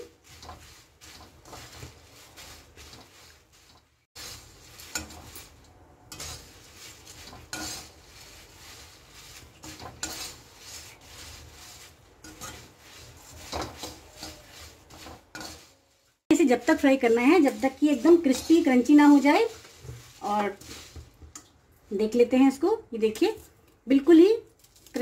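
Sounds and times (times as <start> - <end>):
metal spatula scraping pan: 0.0 - 21.2
rustle of grains: 0.0 - 21.2.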